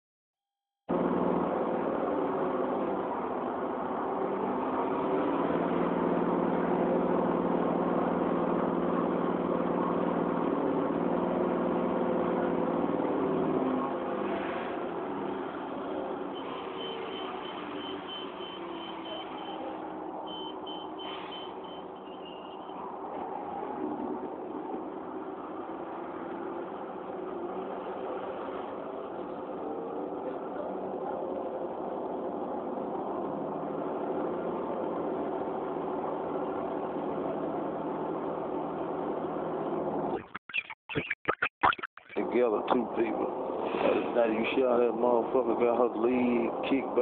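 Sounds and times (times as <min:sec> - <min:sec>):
bus engine hum: 0:00.9 - 0:40.2, 0:42.2 - 0:47.0.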